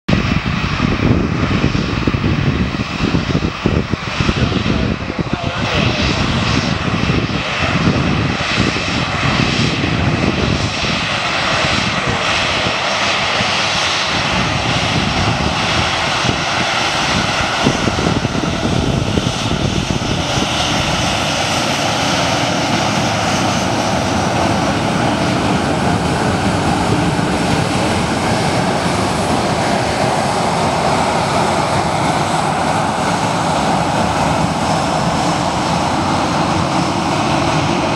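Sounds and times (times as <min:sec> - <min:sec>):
jet engines rushing hum with whine: 0:00.1 - 0:37.9.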